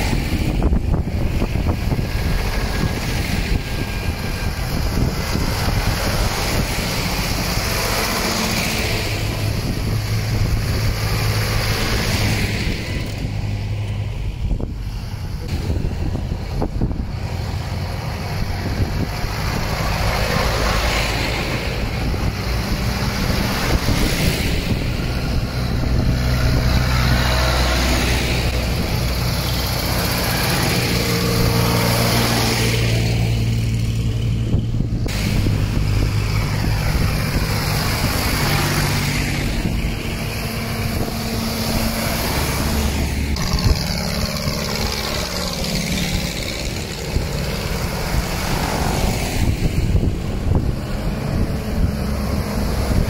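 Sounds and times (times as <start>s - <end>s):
tractor diesel engines passing: 0.0s - 53.0s
tyre noise on road: 0.0s - 53.0s.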